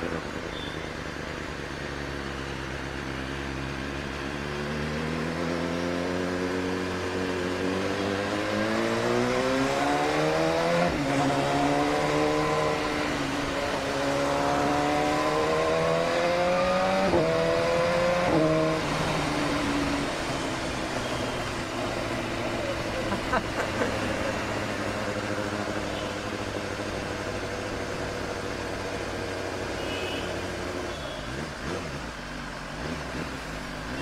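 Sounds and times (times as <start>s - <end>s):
motorcycle accelerating through gears: 2.0s - 29.8s, 30.4s - 34.0s.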